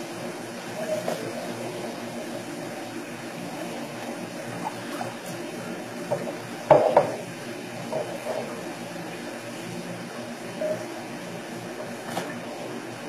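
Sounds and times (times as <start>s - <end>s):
low mechanical hum: 0.0s - 13.0s
running water: 0.0s - 13.0s.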